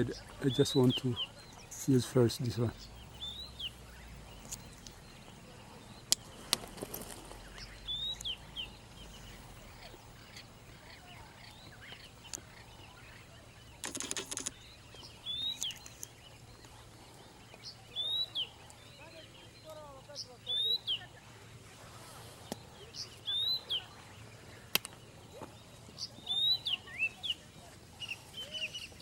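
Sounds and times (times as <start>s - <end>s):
faint bird chirps: 0.0s - 29.0s.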